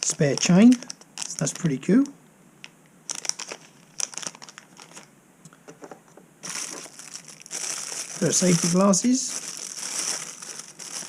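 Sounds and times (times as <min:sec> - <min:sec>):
packaging crinkling and rustling: 0:00.0 - 0:02.1, 0:03.1 - 0:05.1, 0:05.8 - 0:11.0.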